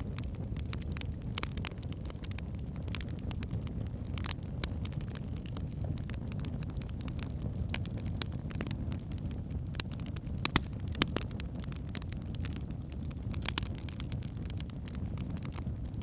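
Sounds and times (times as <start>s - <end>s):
logs burning and crackling: 0.0s - 16.0s.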